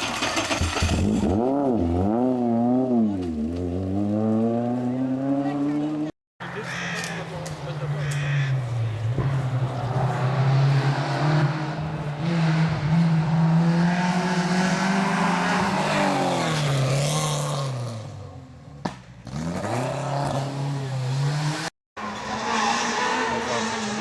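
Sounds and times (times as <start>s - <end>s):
rally car engine accelerating: 0.0s - 6.1s, 7.7s - 24.0s.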